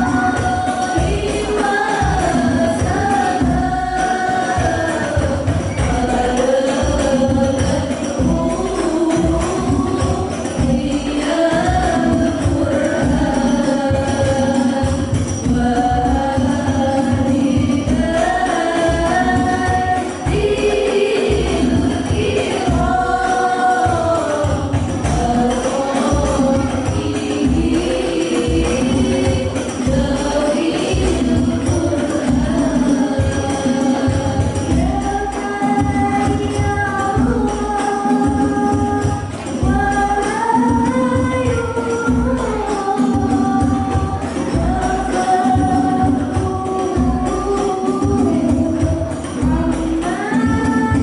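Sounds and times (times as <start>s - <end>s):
devotional group singing: 0.0s - 51.0s
frame drums: 0.0s - 51.0s.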